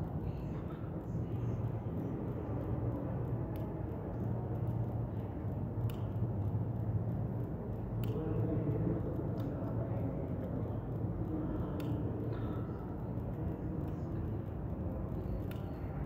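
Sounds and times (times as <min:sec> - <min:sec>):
low room hum and rumble: 0:00.0 - 0:16.0
faint clicks: 0:00.2 - 0:16.0.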